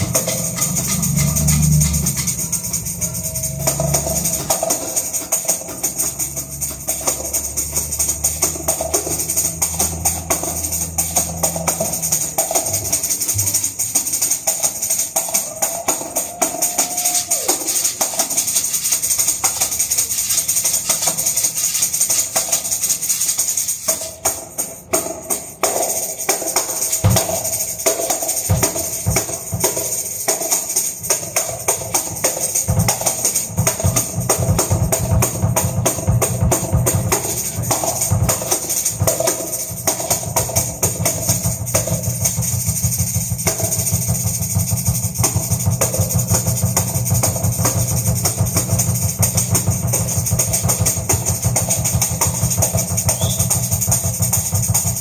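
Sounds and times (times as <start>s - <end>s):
high metallic jingling: 0.0s - 55.0s.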